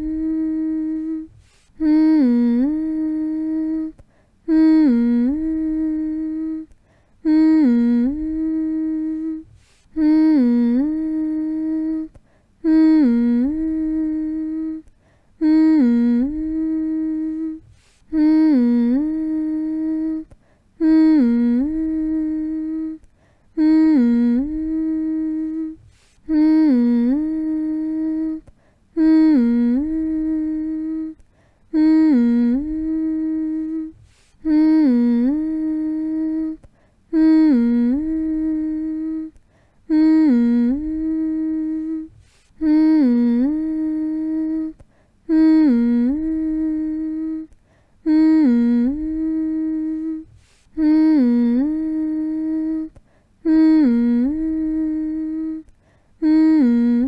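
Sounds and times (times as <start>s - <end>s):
person humming: 0.0s - 57.0s.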